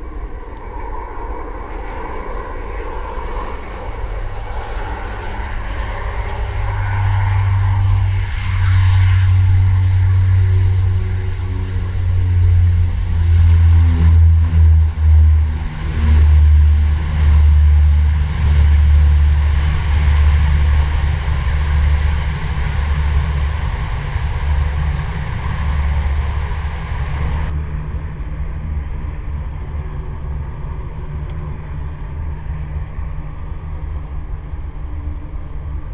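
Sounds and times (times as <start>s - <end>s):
turboprop plane landing: 0.0s - 35.9s.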